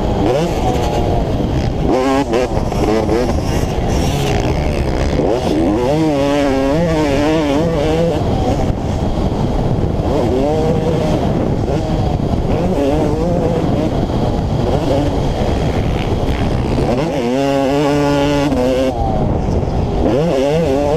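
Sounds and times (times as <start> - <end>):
dirt bike engine revving: 0.0 - 20.9
loud rushing wind: 0.0 - 20.9.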